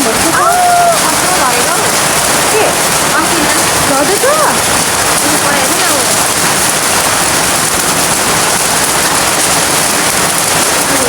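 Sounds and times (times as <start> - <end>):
heavy rain and hail: 0.0 - 11.0.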